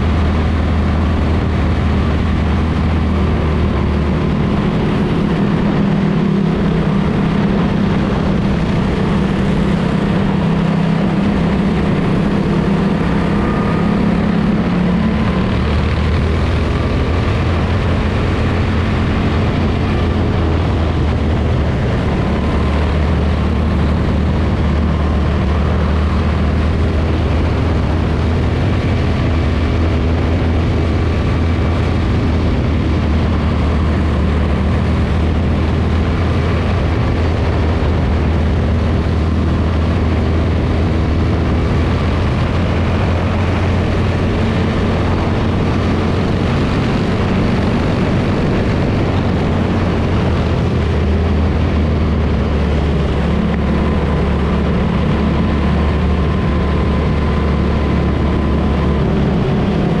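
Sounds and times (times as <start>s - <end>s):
wind and road noise: 0.0s - 60.0s.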